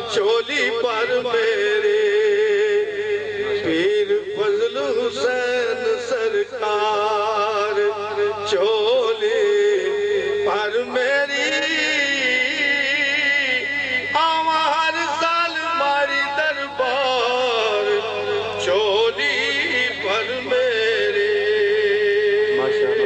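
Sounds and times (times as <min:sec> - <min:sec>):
man singing devotional verse: 0:00.0 - 0:23.0.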